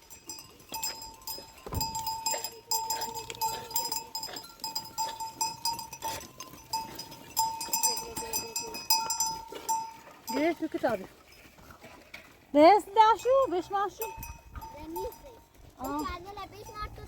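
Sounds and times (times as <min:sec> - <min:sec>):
livestock bells clanking: 0:00.0 - 0:17.0.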